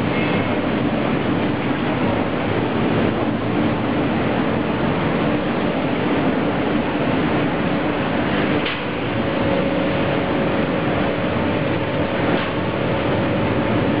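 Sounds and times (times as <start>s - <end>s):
industrial furnace noise: 0.0s - 14.0s.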